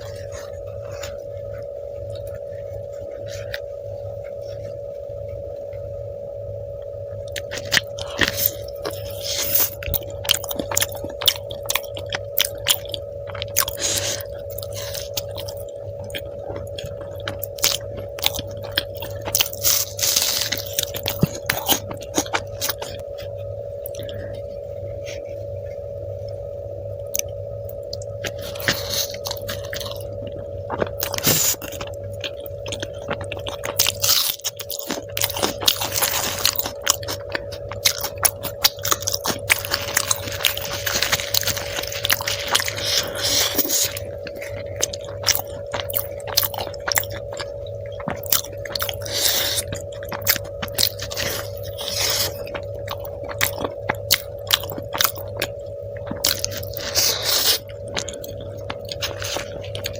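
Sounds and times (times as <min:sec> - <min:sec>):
faint steady hum: 0:00.0 - 0:59.9
person chewing and biting: 0:07.3 - 0:24.3, 0:27.1 - 0:59.9.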